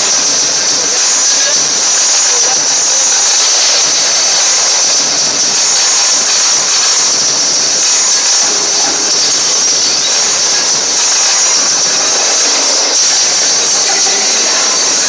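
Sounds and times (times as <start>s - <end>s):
crowd cheering and screaming: 0.0s - 15.0s
dance music: 0.0s - 15.0s.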